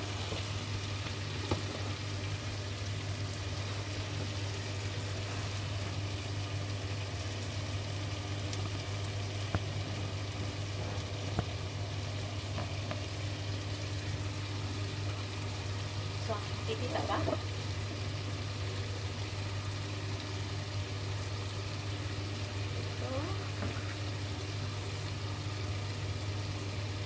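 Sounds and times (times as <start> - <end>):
shrimp sizzling in a pan: 0.0 - 27.0.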